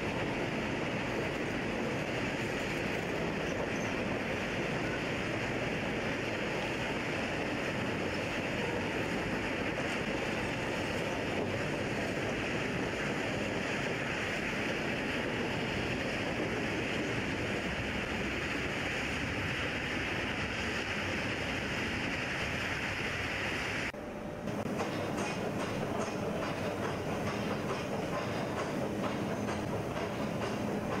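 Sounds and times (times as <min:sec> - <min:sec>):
train running: 0:00.0 - 0:31.0.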